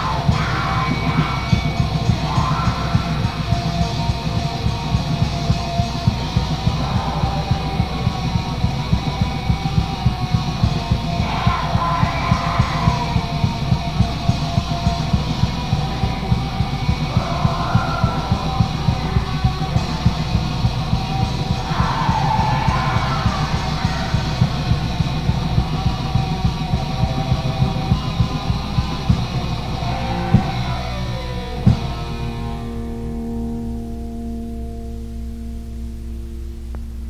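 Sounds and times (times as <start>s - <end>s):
harsh yelled vocals: 0.0s - 32.1s
drums pounding beat: 0.0s - 32.4s
distorted electric guitar: 0.0s - 37.0s.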